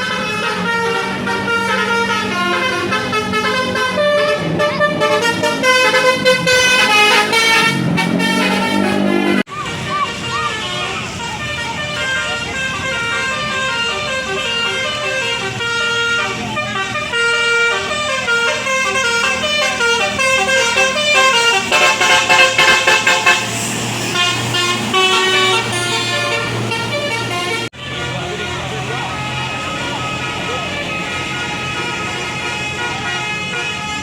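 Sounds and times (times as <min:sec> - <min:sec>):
multi-tone bus horn playing a tune: 0:00.0 - 0:34.0.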